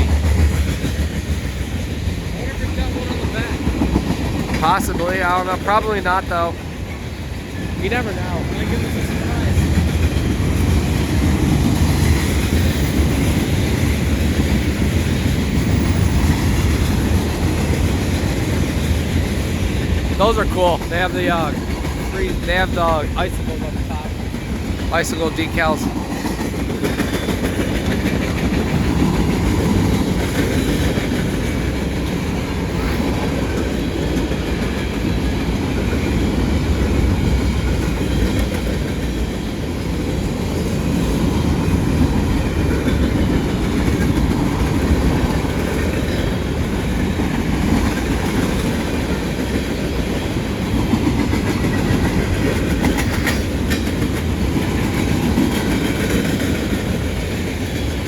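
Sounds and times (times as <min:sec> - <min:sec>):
wheels clacking over rail joints: 0:00.0 - 0:24.9, 0:25.8 - 0:58.0
freight train rumbling past: 0:00.0 - 0:58.0.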